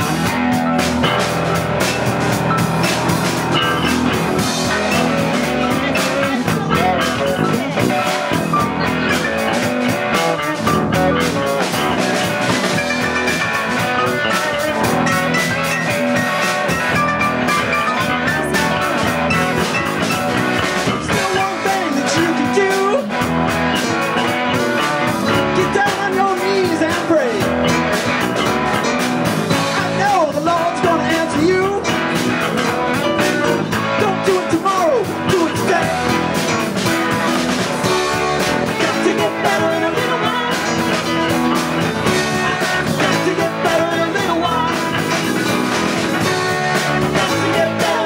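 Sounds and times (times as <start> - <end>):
electric guitar: 0.0 - 48.0
live blues-rock band playing: 0.0 - 48.0.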